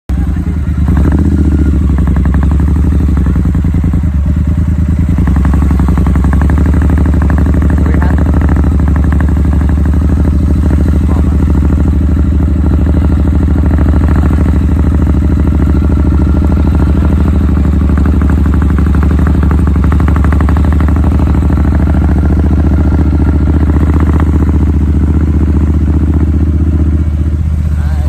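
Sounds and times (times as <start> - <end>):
vehicle engine running: 0.1 - 28.0.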